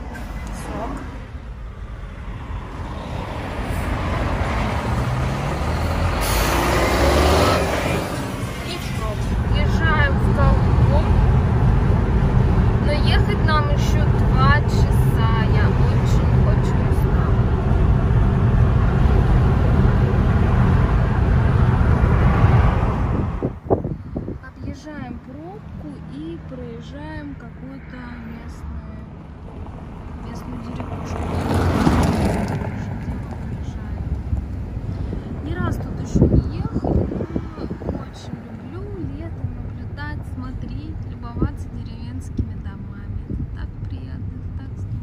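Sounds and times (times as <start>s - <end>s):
diesel truck engine rumble: 0.0s - 45.0s
road noise: 0.0s - 45.0s.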